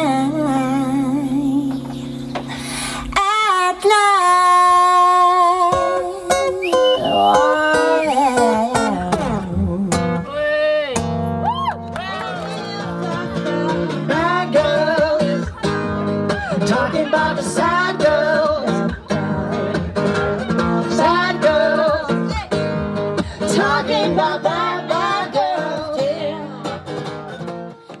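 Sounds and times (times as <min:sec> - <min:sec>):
live band with lead guitar: 0:00.0 - 0:03.4, 0:04.7 - 0:28.0.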